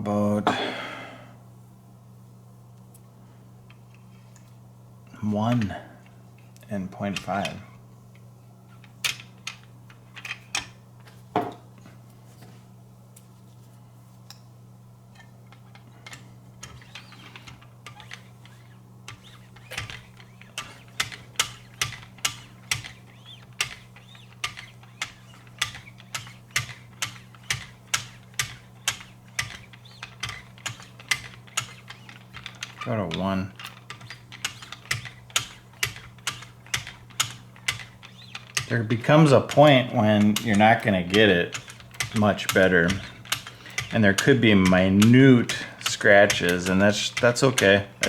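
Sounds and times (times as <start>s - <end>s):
constant low hum: 0.0s - 48.0s.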